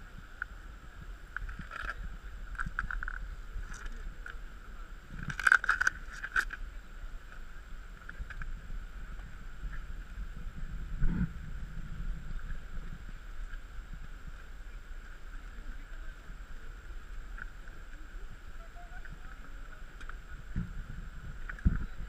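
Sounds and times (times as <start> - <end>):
muffled rumble of water and wind: 0.0 - 22.0.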